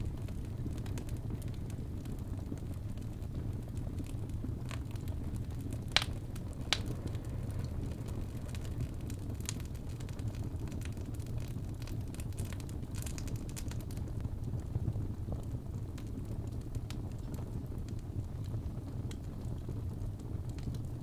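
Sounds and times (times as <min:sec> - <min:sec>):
low rumble of fire: 0:00.0 - 0:21.0
wood fire crackling and popping: 0:00.0 - 0:21.0.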